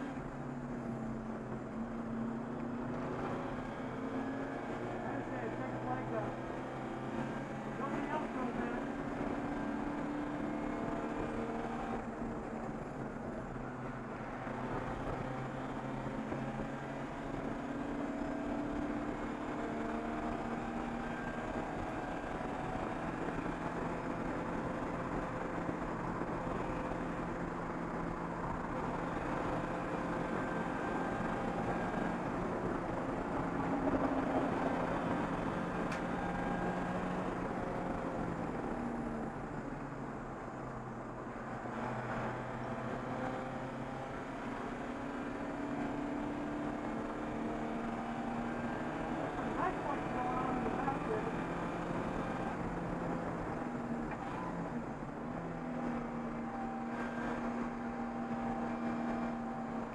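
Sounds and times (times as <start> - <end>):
race car engine revving: 2.0 - 13.1, 13.9 - 39.4, 41.4 - 59.9.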